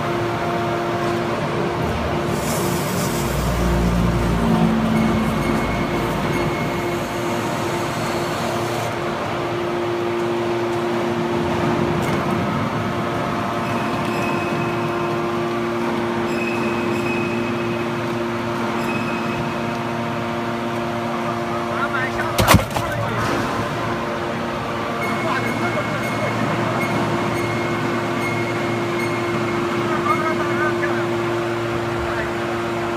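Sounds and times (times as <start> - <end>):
hydraulic baler humming: 0.0 - 32.9.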